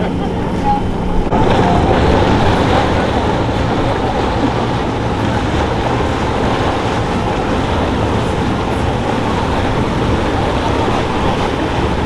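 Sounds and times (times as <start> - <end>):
boat engines running: 0.0 - 12.0
water churning: 0.0 - 12.0
wind noise: 0.0 - 12.0.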